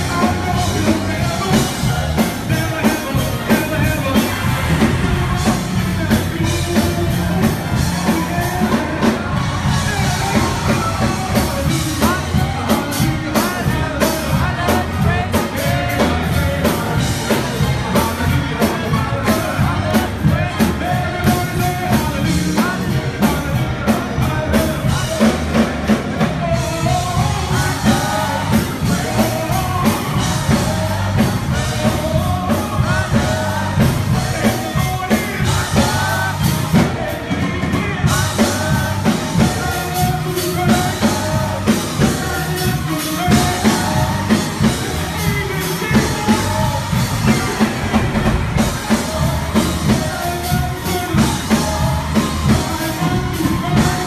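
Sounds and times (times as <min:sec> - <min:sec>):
drum kit beat: 0:00.0 - 0:54.0
keyboard: 0:00.0 - 0:54.0
voices singing: 0:00.0 - 0:54.0.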